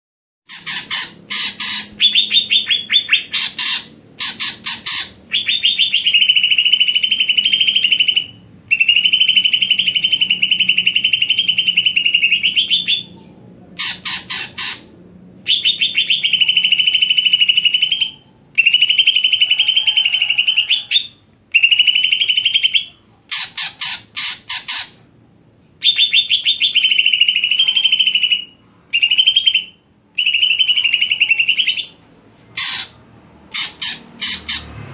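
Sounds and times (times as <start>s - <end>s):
songbird singing buzzy trills: 0.5s - 34.8s.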